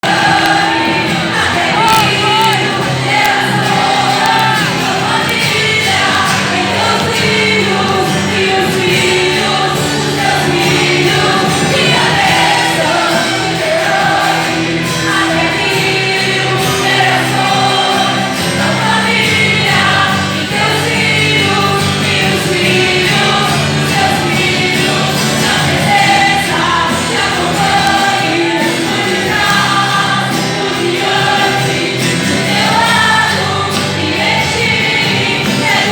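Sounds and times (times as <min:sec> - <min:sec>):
choir singing gospel with instruments: 0:00.0 - 0:35.9.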